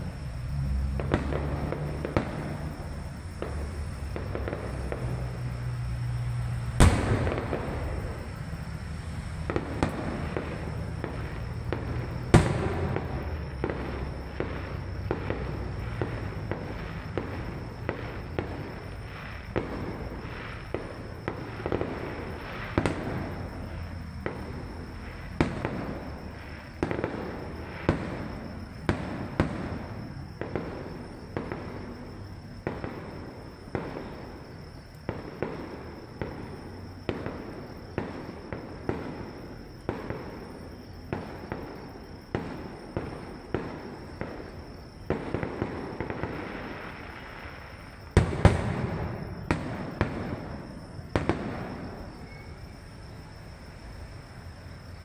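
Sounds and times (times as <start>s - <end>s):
fireworks sharp bangs: 0.0s - 55.0s.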